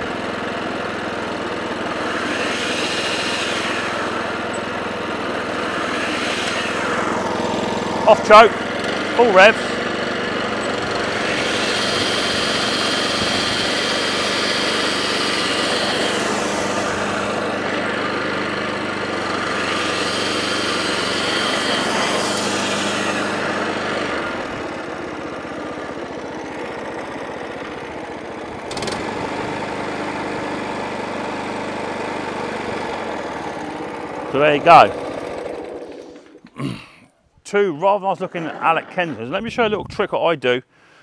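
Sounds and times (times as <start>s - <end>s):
high whine of cutting cylinder: 0.0s - 36.5s
lawnmower engine running: 0.0s - 36.8s, 37.5s - 39.9s.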